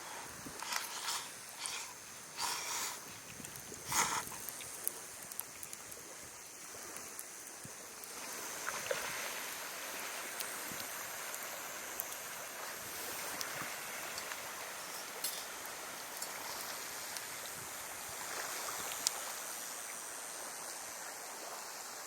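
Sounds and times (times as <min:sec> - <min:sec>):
campfire burning with crackles: 0:00.0 - 0:21.2.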